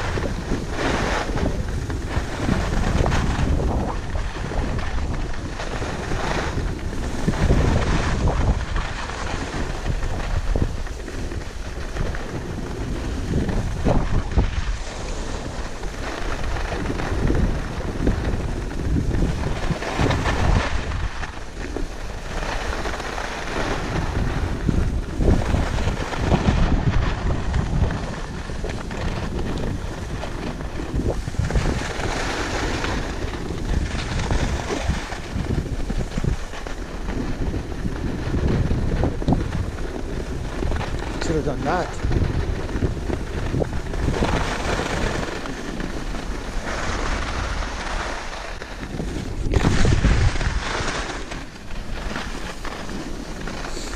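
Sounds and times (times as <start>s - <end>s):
skis scraping over snow: 0.0s - 53.9s
wind rushing over microphone: 0.0s - 53.9s.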